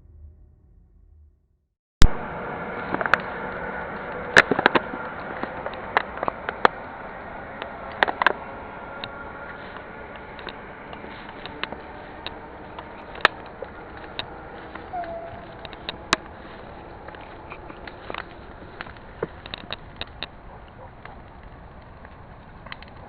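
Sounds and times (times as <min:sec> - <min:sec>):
campfire wood crackling and popping: 0:02.0 - 0:23.0.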